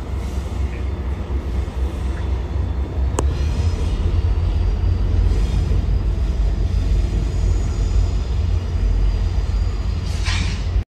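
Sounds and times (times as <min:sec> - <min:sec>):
locomotive engine rumble: 0:00.0 - 0:10.8.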